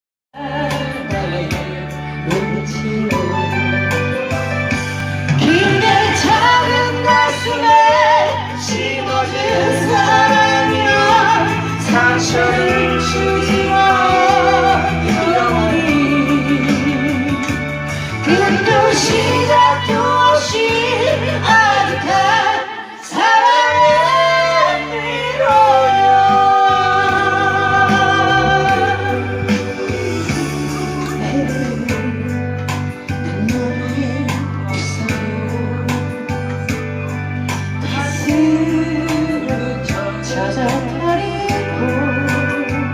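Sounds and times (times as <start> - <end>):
person singing into microphone: 0.4 - 4.0, 5.3 - 42.9
beat-driven backing music: 0.4 - 42.9.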